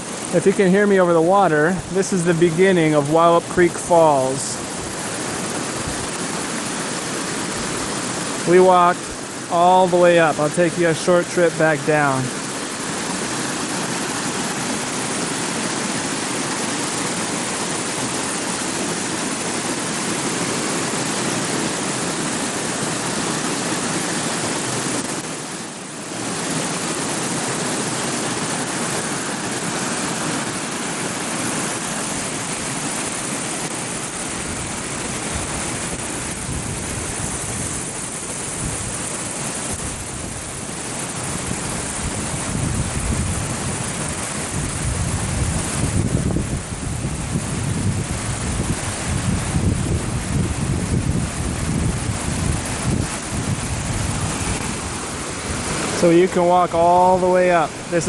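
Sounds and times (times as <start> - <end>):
waterfall rushing over rock: 0.0 - 58.0
wind buffeting microphone: 4.2 - 10.2, 11.9 - 58.0.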